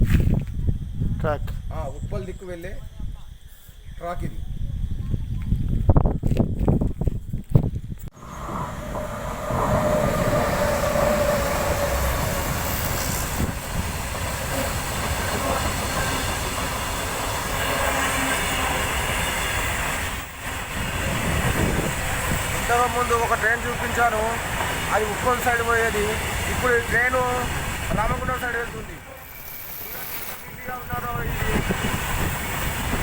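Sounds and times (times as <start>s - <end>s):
train wheels rumbling on rails: 6.0s - 33.0s.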